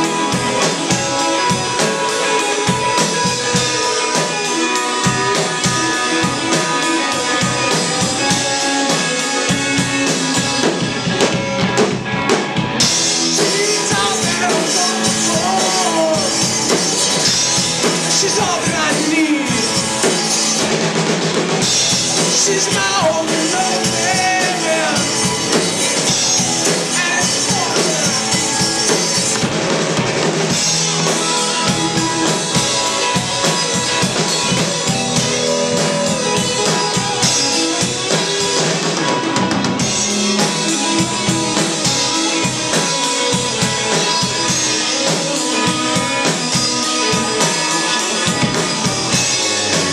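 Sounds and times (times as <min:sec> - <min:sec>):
bending lead guitar line: 0:00.0 - 0:49.9
drum kit: 0:00.0 - 0:49.9
electric guitars: 0:00.0 - 0:49.9.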